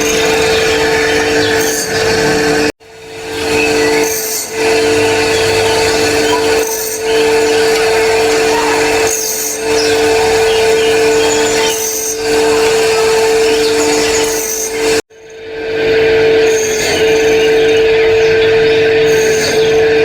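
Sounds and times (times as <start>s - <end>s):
continuous rasping grinding: 0.0s - 20.0s
grinding machine motor hum: 0.0s - 20.0s.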